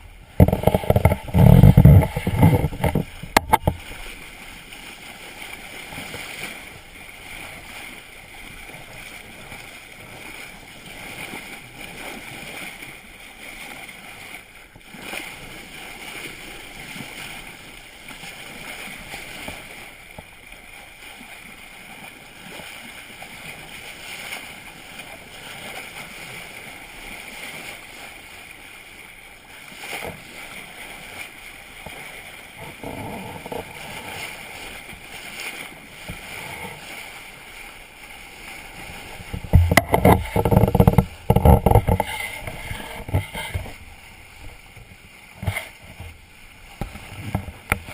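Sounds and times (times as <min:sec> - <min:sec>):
water rushing along boat hull: 0:00.0 - 0:47.9.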